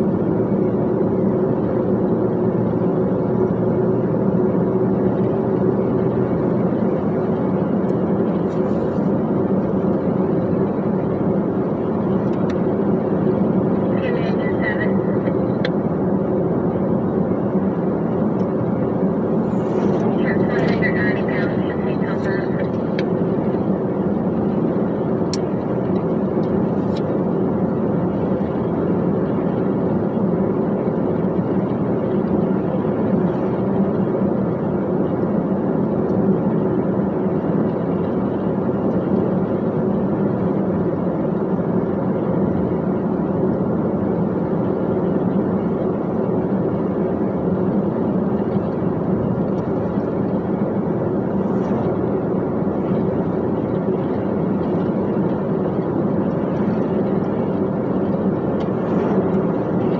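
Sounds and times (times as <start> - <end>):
dump truck engine drone: 0.0 - 59.9.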